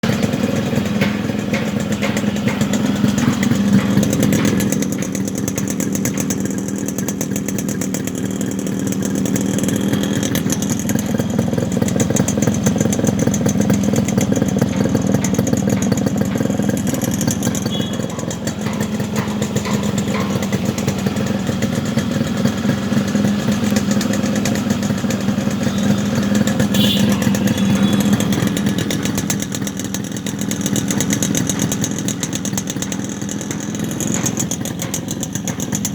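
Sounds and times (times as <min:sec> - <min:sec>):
two-stroke motorcycle engine running: 0:00.0 - 0:35.9.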